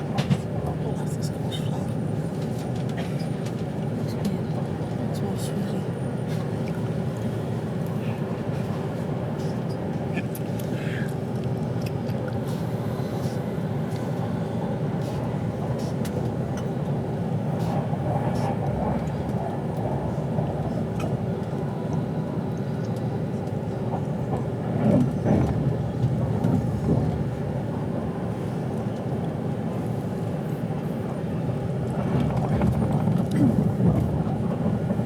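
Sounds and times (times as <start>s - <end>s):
train rumble inside carriage: 0.0s - 35.0s.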